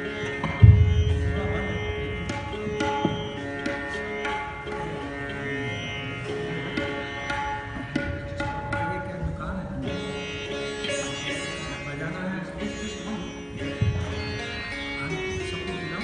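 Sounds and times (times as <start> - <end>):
sitar playing: 0.0 - 16.0
tabla strokes: 0.0 - 16.0.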